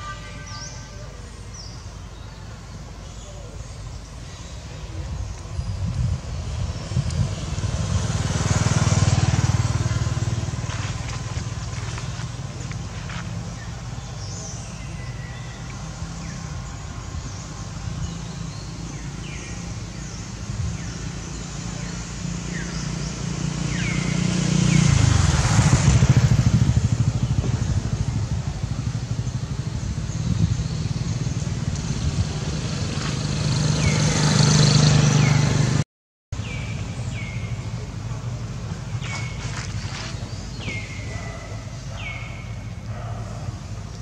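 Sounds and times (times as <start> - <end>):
traffic engines droning: 0.0 - 35.8, 36.4 - 44.0.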